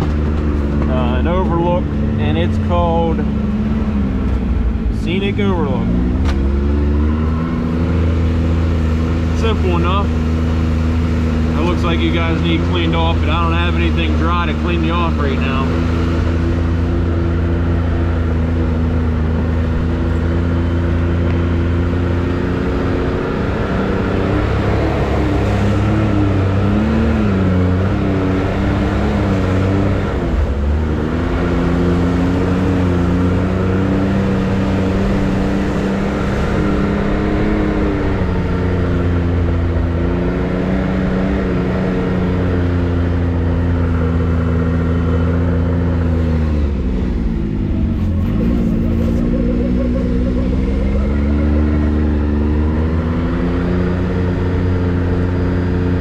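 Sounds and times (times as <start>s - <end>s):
off-road vehicle engine running: 0.0s - 56.0s.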